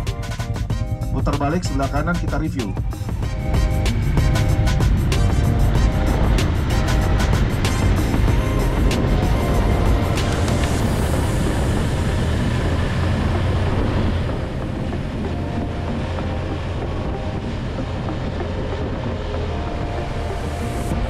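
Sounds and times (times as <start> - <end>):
road noise: 0.0 - 21.0
wind noise: 0.0 - 21.0
motorcycle engine rumble: 2.6 - 21.0.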